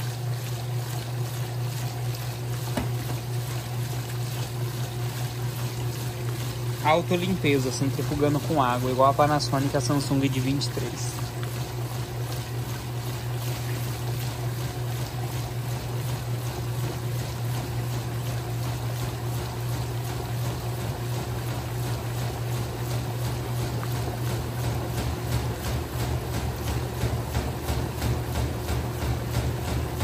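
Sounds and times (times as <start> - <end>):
water swishing: 0.0 - 29.9
washing machine motor hum: 0.0 - 30.0.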